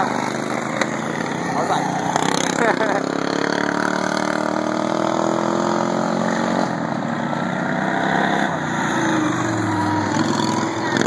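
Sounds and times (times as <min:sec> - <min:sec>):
lawn mower engines racing: 0:00.0 - 0:11.0.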